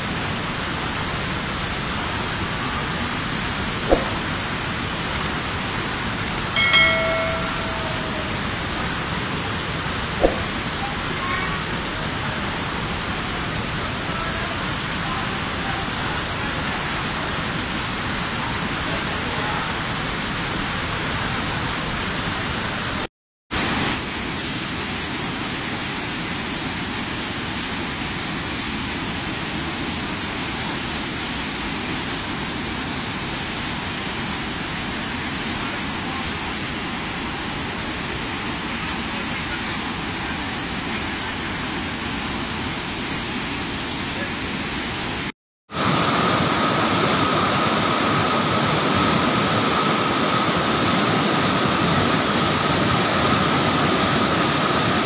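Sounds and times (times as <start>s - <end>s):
floodwater rushing: 0.0s - 23.0s, 23.6s - 55.0s.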